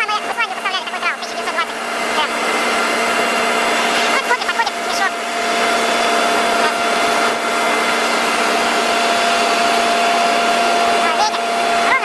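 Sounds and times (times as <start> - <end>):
machinery whirring drone: 0.0 - 12.0.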